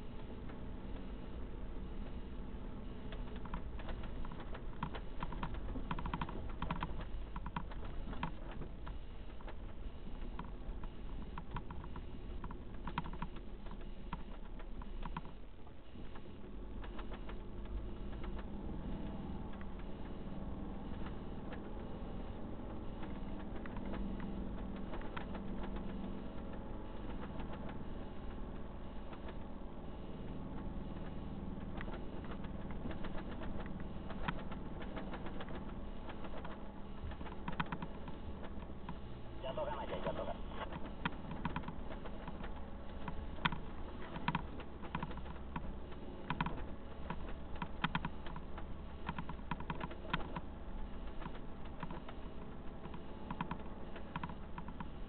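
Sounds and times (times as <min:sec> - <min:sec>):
engine and road rumble: 0:00.0 - 0:55.0
engine hum: 0:00.0 - 0:55.0.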